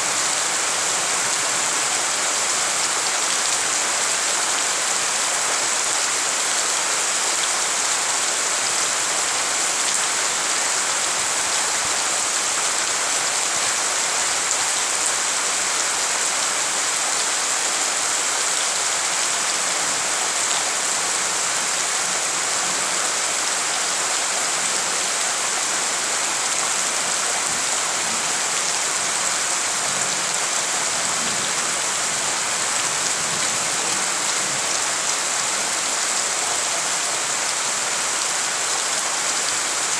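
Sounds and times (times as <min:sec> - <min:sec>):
heavy rain on puddles: 0:00.0 - 0:39.9.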